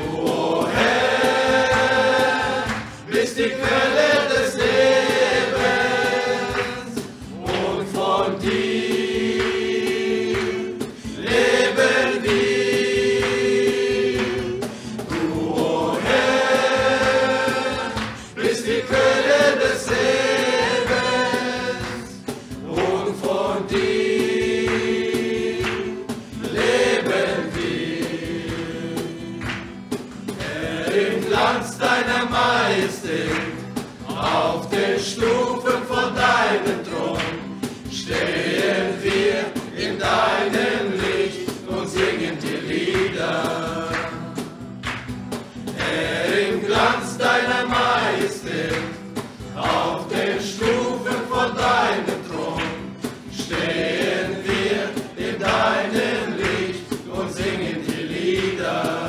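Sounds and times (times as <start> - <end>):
group singing worship song: 0.0 - 59.0.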